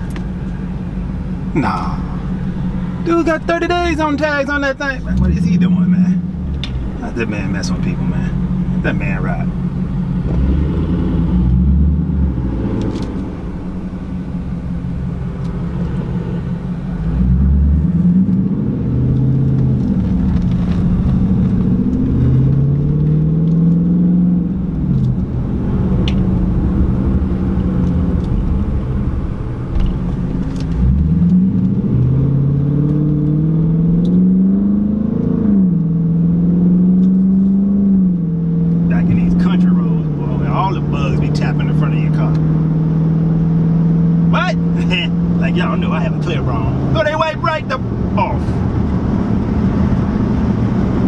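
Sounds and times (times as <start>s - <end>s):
car engine accelerating through gears: 0.0s - 51.0s.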